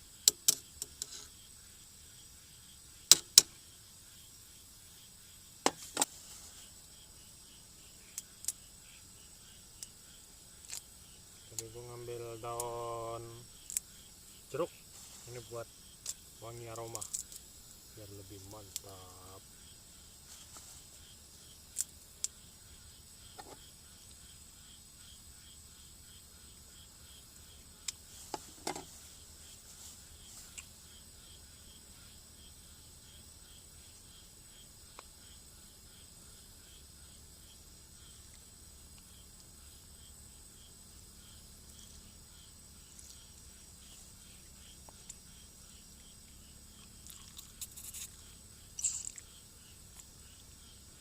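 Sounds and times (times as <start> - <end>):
faint high continuous buzz: 0.0 - 51.0
insects chirping: 0.0 - 51.0.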